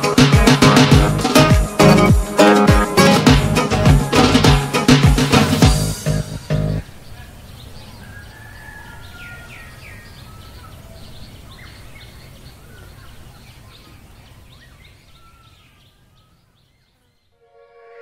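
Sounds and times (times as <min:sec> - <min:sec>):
birds chirping: 0:00.0 - 0:17.4.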